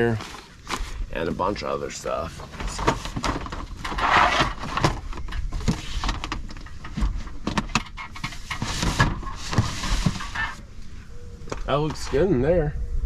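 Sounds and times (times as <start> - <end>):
plastic tote scraping: 0.0 - 10.6.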